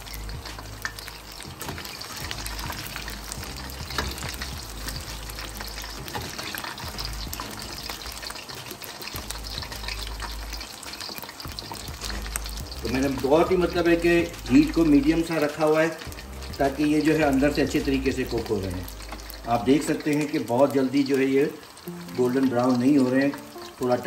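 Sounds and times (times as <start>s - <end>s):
chicken frying in hot oil: 0.0s - 24.0s.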